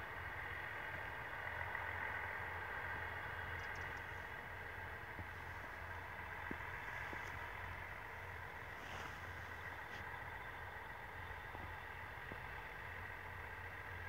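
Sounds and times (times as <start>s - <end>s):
distant diesel train engine hum: 0.0s - 14.0s
faint rush of train: 0.0s - 14.0s.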